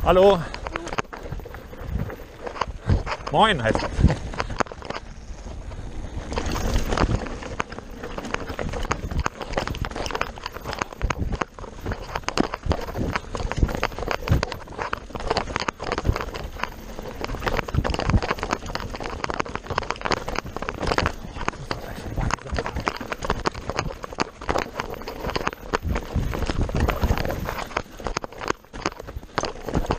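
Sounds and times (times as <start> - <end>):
bike parts rattling: 0.0 - 29.9
bike tyres clattering over stones: 0.0 - 29.9
wind rumble on microphone: 0.0 - 29.9.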